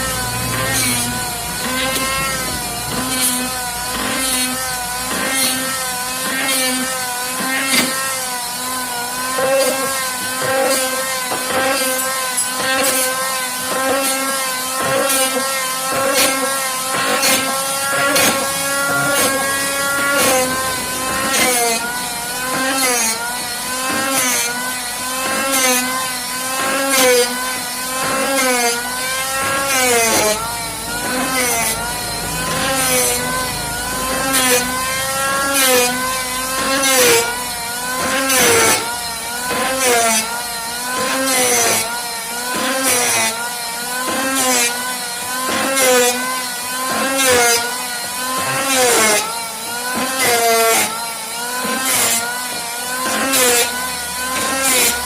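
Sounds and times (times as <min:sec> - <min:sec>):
angle grinder on wood: 0:00.0 - 0:55.0.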